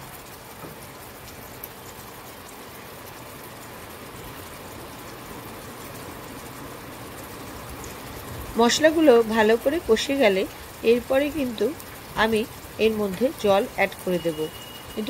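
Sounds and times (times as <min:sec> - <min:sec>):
vegetables sizzling in hot oil: 0:02.6 - 0:15.0.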